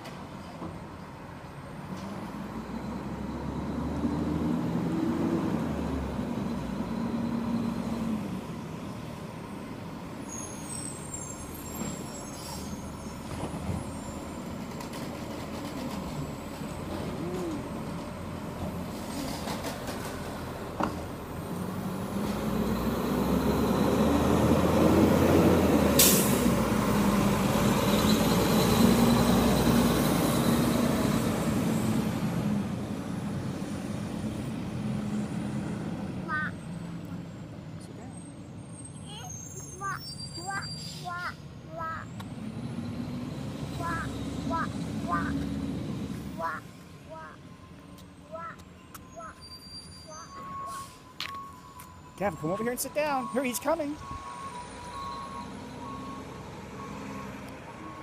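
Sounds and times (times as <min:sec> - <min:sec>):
garbage truck diesel engine: 0:00.0 - 0:58.0.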